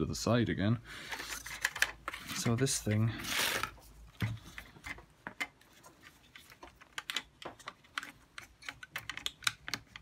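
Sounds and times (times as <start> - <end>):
plastic parts clicking: 1.1 - 10.0.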